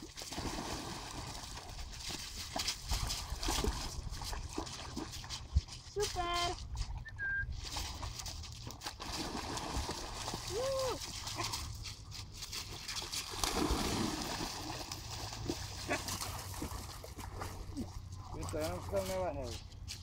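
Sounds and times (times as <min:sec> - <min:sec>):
dogs splashing in water: 0:00.0 - 0:20.0.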